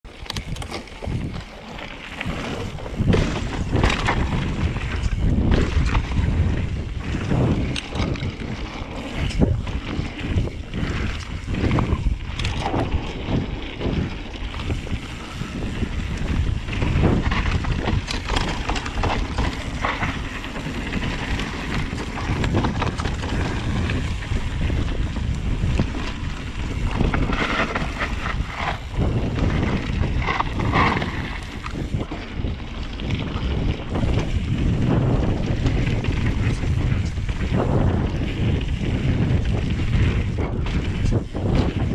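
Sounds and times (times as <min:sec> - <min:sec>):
mountain bike rattling: 0:00.0 - 0:41.9
wind buffeting microphone: 0:00.1 - 0:41.9.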